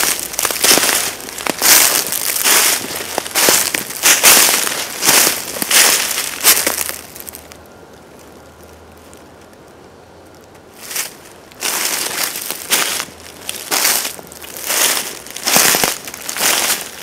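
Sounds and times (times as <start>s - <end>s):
footsteps crunching dry leaves: 0.0s - 9.2s, 10.7s - 17.0s.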